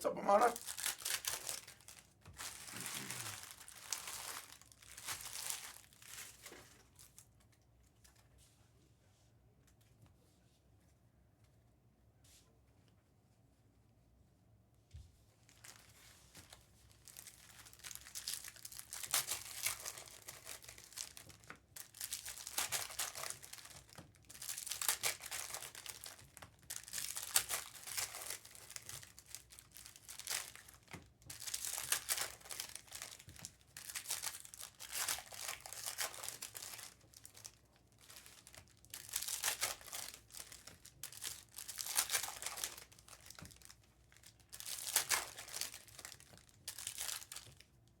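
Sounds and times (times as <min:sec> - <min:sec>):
plastic wrapping crinkling and tearing: 0:00.0 - 0:08.2, 0:15.5 - 0:48.0.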